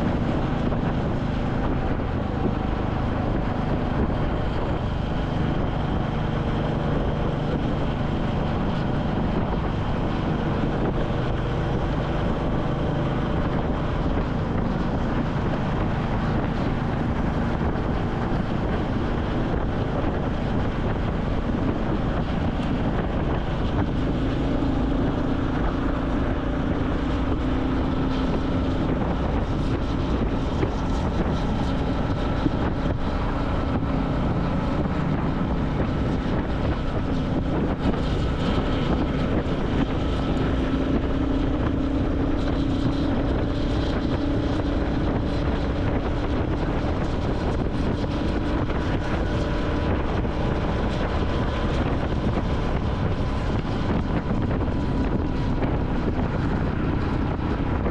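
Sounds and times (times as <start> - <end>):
motorcycle engine running: 0.0 - 57.9
wind noise on microphone: 0.0 - 57.9.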